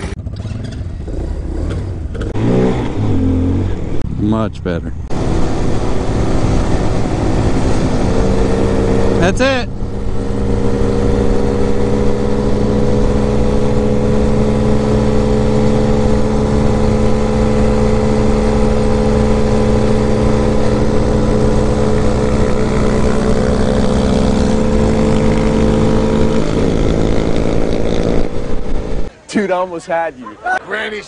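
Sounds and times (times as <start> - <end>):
motorcycle engine running: 0.0 - 4.1, 5.1 - 29.1.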